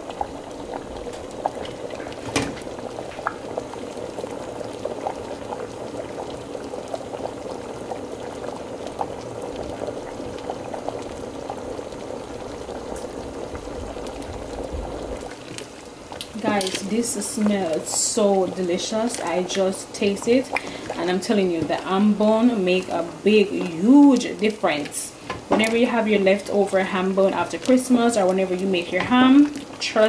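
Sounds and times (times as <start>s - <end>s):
thick soup boiling and popping: 0.0s - 30.0s.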